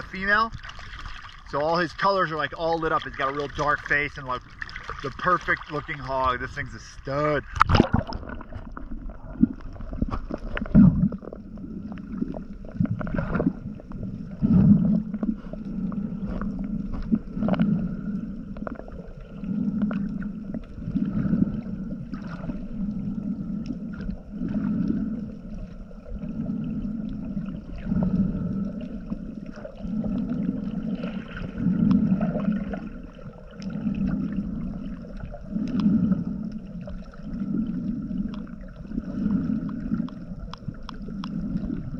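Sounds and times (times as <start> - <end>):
faint steady hum: 0.0 - 41.9
underwater rushing surge: 0.0 - 41.9.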